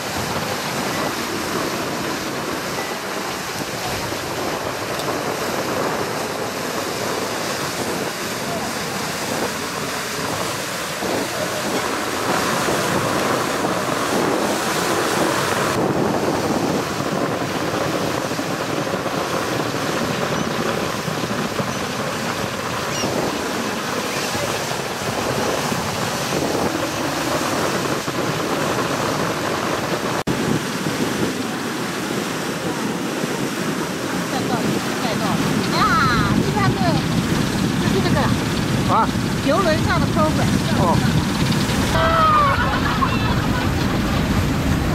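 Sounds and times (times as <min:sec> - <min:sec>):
water rushing: 0:00.0 - 0:44.9
wind on microphone: 0:00.0 - 0:44.9.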